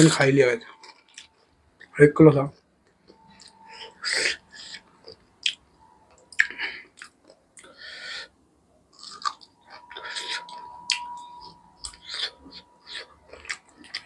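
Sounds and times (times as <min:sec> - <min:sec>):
man chewing and biting food: 0:00.0 - 0:01.9, 0:02.6 - 0:14.0.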